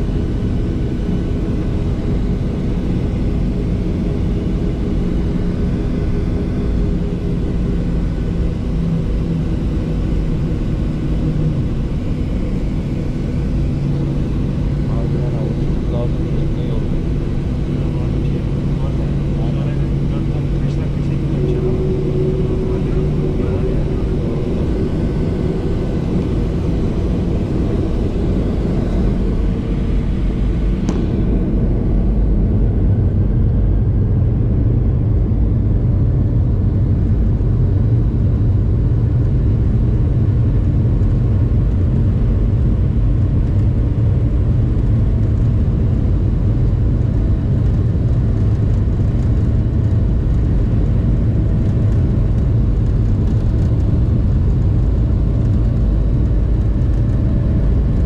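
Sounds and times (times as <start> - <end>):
jet engines deep rumble: 0.0 - 58.0.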